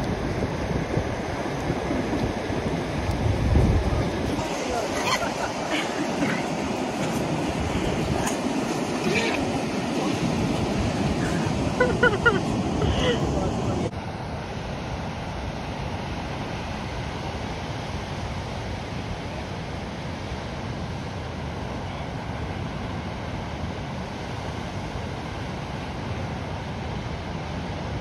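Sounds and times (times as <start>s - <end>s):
ocean surf breaking on beach: 0.0s - 28.0s
wind rumble on microphone: 0.0s - 28.0s.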